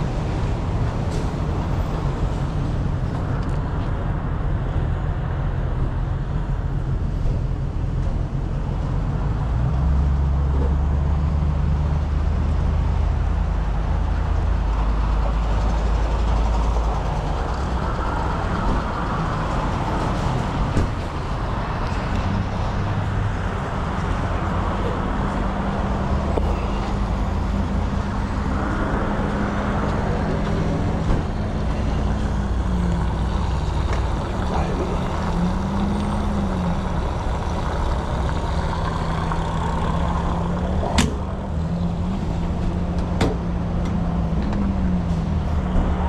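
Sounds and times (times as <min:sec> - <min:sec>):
truck engine rumble: 0:00.0 - 0:46.0.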